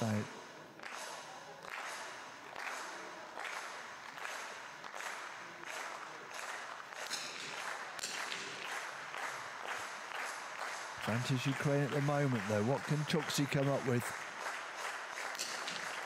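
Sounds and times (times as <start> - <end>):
spectators clapping in rhythm: 0.0 - 16.0.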